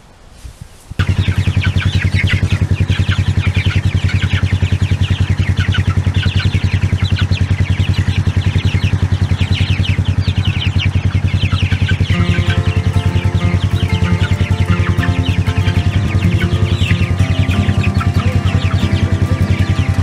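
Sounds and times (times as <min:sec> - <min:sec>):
chicks peeping: 0:01.0 - 0:20.0
engine idling: 0:01.0 - 0:20.0.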